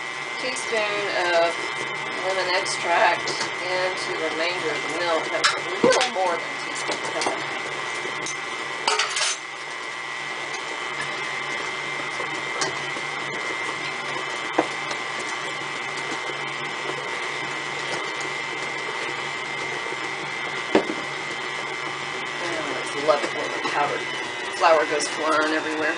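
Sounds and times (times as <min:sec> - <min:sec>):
stand mixer running: 0:00.0 - 0:25.9.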